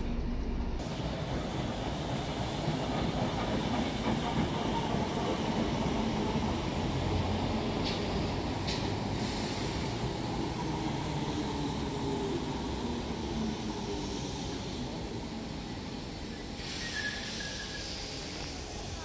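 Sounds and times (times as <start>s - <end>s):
train rumbling on tracks: 0.0s - 19.0s
hiss: 0.8s - 19.0s.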